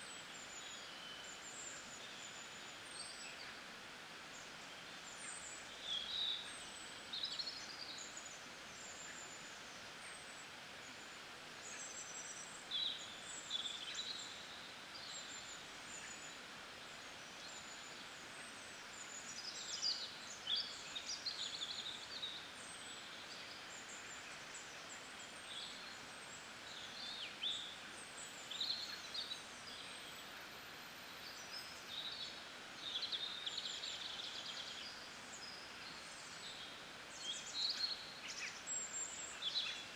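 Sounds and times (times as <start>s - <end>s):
outdoor ambience hiss: 0.0s - 39.9s.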